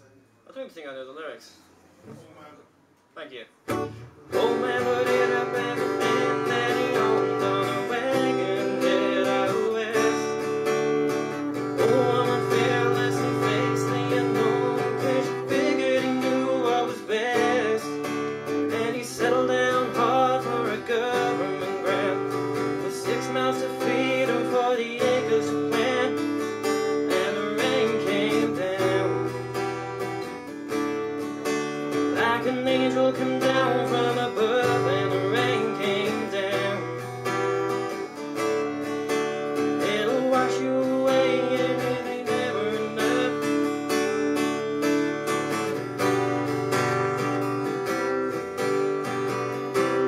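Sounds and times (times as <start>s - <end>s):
acoustic guitar strumming: 3.6s - 50.0s.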